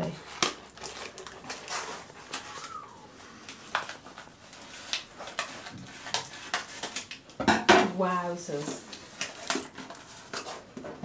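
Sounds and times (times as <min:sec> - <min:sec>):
paper crinkling: 0:00.0 - 0:07.3, 0:08.5 - 0:11.0.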